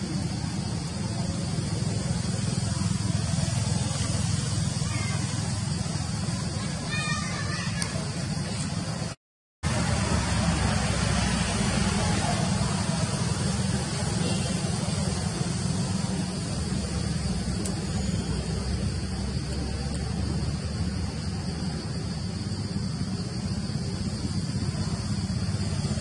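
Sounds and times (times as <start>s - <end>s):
hiss: 0.0s - 26.0s
low rumbling: 0.0s - 26.0s.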